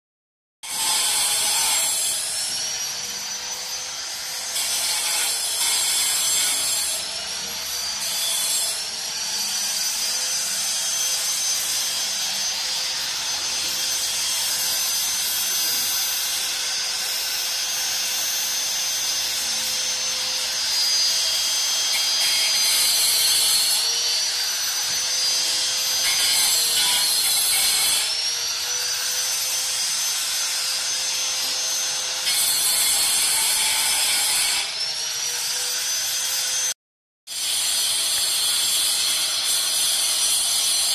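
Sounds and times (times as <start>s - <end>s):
angle grinder cutting concrete: 0.6s - 36.7s, 37.3s - 40.9s.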